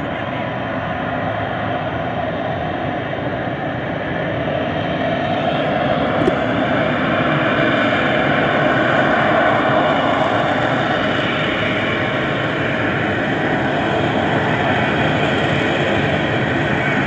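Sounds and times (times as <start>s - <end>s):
hovering jet engine roar: 0.0s - 17.0s.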